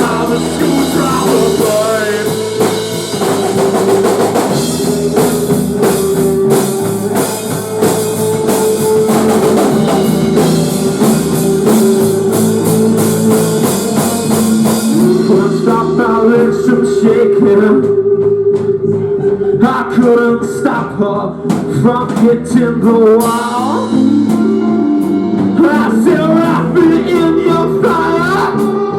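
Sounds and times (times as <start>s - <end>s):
electric guitar sustained notes: 0.0s - 21.5s, 23.2s - 28.9s
drum kit playing: 0.0s - 28.9s.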